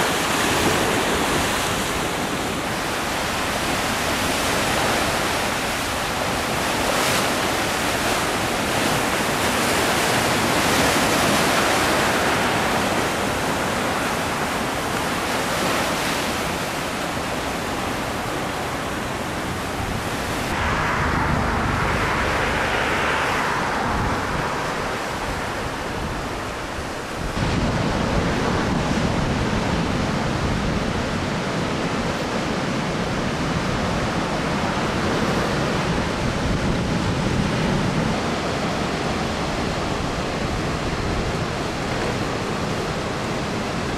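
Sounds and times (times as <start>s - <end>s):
ocean surf breaking: 0.0s - 43.9s
wind on microphone: 0.0s - 43.9s.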